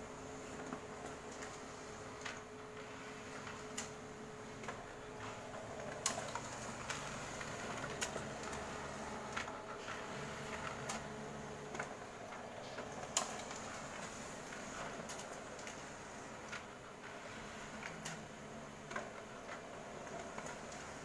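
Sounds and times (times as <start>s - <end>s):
printer mechanical hum: 0.0s - 21.0s.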